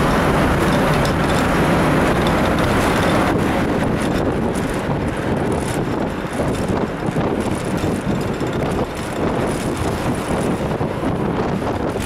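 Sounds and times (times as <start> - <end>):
bus rumbling: 0.0 - 12.0
wind rushing through windows: 0.0 - 12.0.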